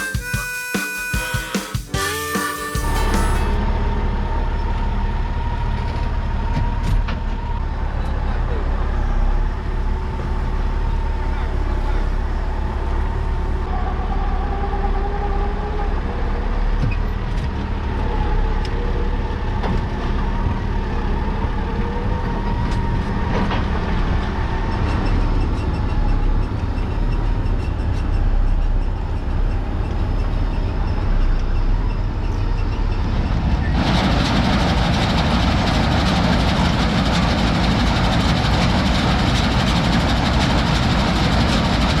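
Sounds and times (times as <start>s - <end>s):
combine harvester engine drone: 1.9s - 42.0s.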